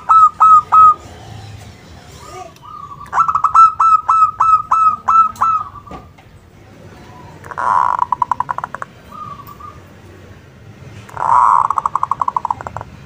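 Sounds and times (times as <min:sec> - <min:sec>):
dove cooing: 0:00.0 - 0:06.1, 0:07.2 - 0:10.4, 0:11.0 - 0:13.0.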